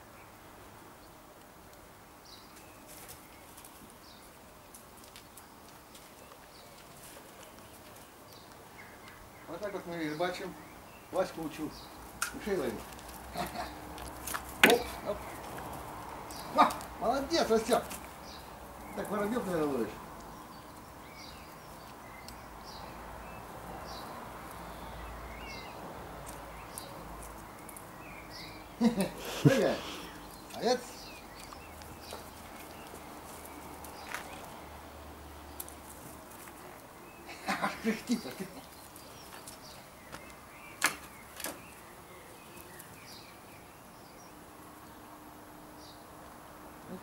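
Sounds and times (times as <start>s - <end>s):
low background noise: 0.0s - 47.0s
small birds chirping: 0.0s - 47.0s.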